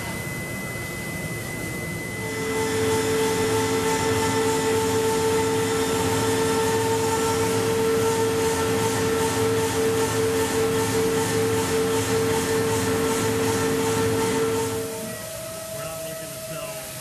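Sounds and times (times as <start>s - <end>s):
air turbine spindle whine: 0.0s - 17.0s.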